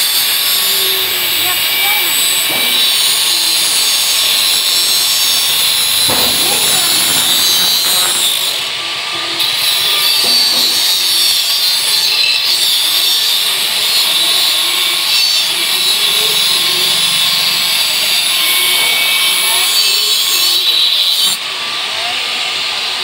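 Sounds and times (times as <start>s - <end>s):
angle grinder grinding metal: 0.0s - 21.4s.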